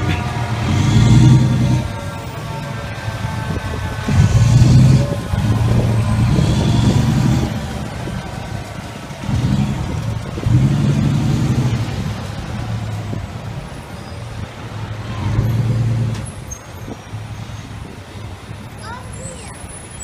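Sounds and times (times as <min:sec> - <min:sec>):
fire truck diesel engine revving: 0:00.0 - 0:18.5.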